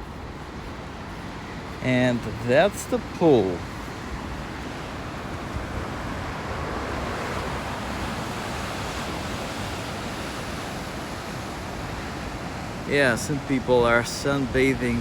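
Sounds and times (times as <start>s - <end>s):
ocean surf washing on shore: 0.0s - 15.0s.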